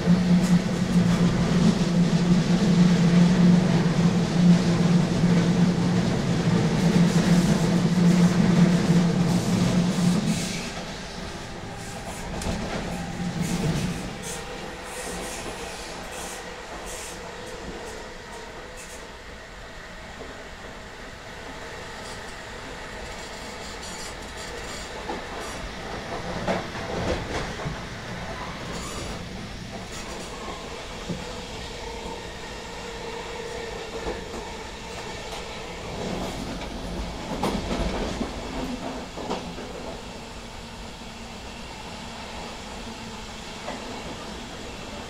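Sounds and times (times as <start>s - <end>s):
train wheels rumbling on rails: 0.0s - 19.3s, 20.0s - 45.0s.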